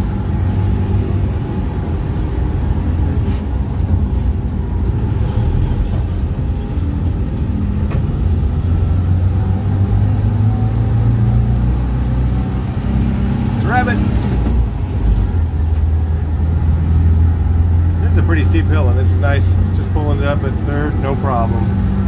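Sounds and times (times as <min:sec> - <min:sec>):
engine running under load: 0:00.0 - 0:22.0
road noise: 0:00.0 - 0:22.0.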